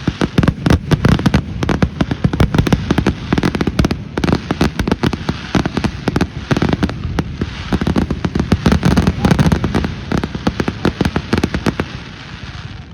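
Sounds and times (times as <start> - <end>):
fireworks popping and banging: 0.0 - 12.9.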